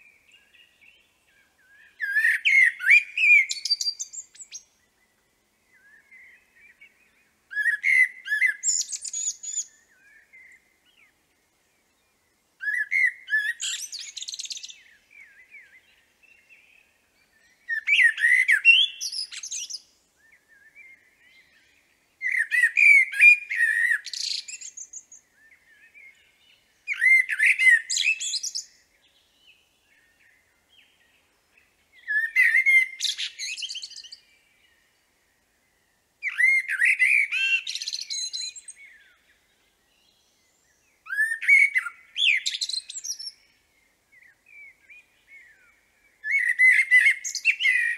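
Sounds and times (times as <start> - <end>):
blackbird singing: 0.0 - 11.2, 11.8 - 35.0, 36.2 - 47.9.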